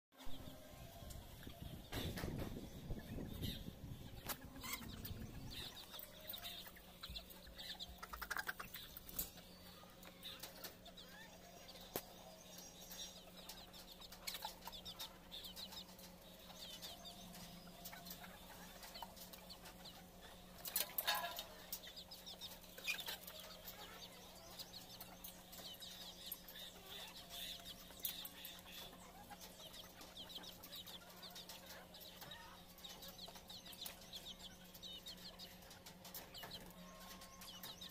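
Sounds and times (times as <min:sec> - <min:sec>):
chickens clucking: 0:00.2 - 0:37.9.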